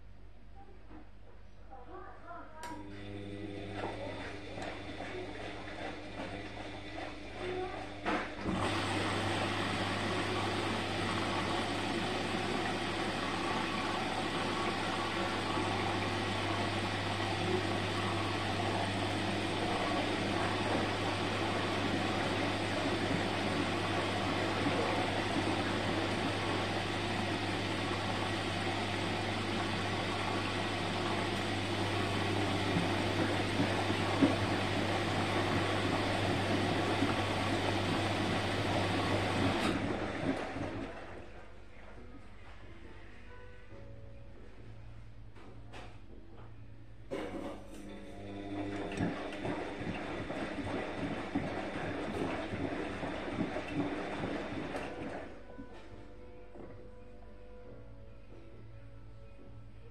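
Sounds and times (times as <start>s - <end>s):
washing machine running: 2.5s - 44.1s, 47.1s - 57.0s.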